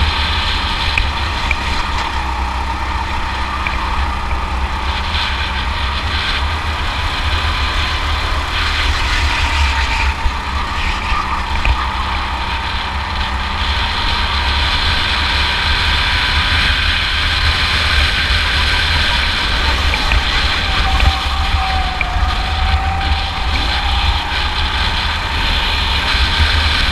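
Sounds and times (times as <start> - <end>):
go-kart engine running: 0.0 - 26.9
heavy low rumble: 0.0 - 26.9.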